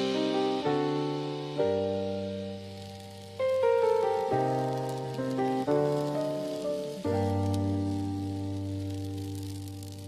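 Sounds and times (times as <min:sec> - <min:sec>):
instrumental music with sustained chords: 0:00.0 - 0:10.0.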